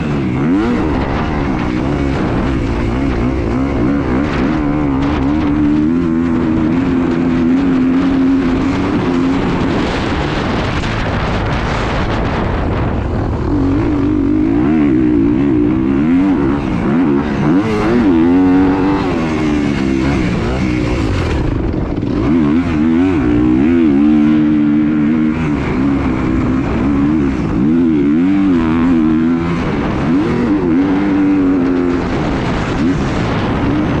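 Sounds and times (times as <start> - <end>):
engine revving up and down: 0.0 - 34.0
wind rumble on microphone: 0.0 - 34.0.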